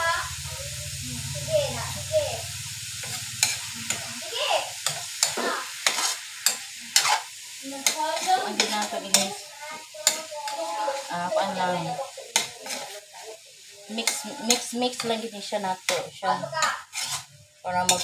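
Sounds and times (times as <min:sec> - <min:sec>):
meat sizzling in oil: 0:00.0 - 0:18.0
spatula scraping a wok: 0:01.9 - 0:18.0.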